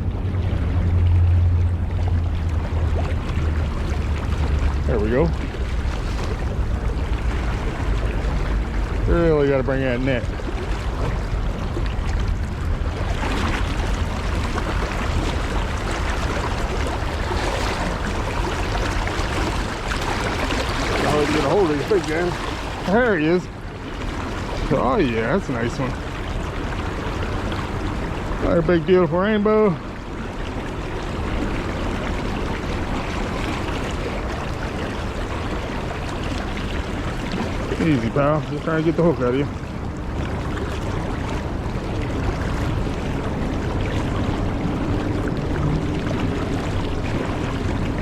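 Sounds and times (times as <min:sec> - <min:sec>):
low rumble: 0:00.0 - 0:48.0
river current rushing: 0:00.0 - 0:48.0.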